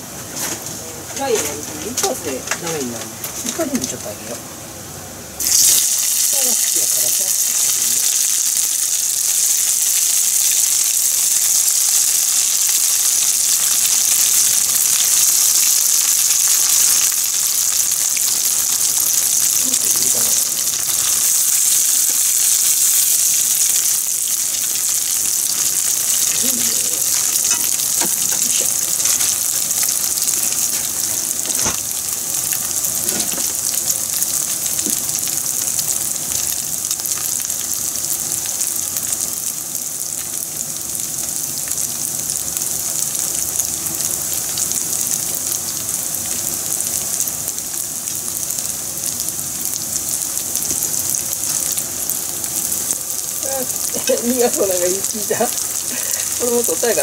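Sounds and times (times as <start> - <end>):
oil sizzling in frying pan: 0.0 - 2.8, 3.5 - 57.0.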